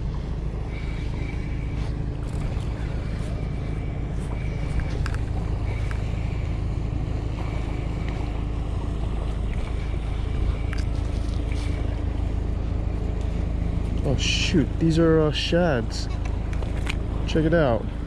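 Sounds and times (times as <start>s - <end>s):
moving water: 0.0s - 18.0s
outboard motorboat engine drone: 0.0s - 18.0s.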